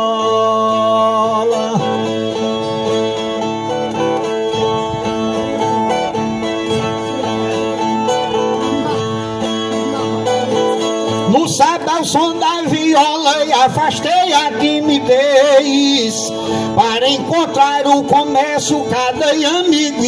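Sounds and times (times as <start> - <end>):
man singing: 0.0 - 20.0
plucked and strummed viola: 0.0 - 20.0.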